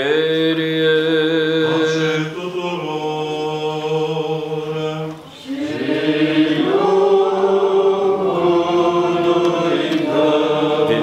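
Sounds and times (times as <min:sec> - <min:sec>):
church choir chanting: 0:00.0 - 0:11.0.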